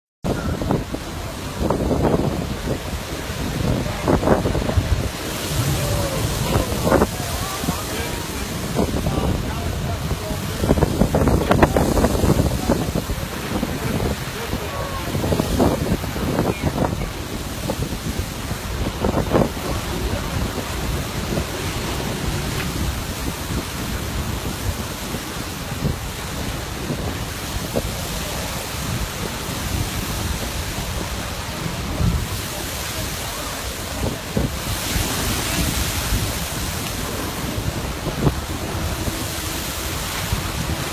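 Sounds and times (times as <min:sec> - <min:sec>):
surf rushing: 0:00.2 - 0:40.9
wind buffeting microphone: 0:00.2 - 0:40.9.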